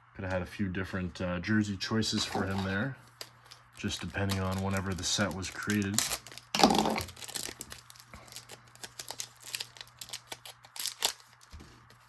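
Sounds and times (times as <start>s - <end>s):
plastic wrapper crinkling and tearing: 2.2s - 12.0s.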